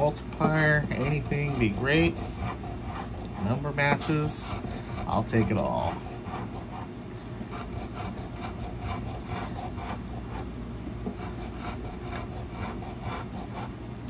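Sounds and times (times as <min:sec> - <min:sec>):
coin scraping scratch card: 0:00.7 - 0:06.9, 0:07.5 - 0:10.5, 0:11.2 - 0:13.7.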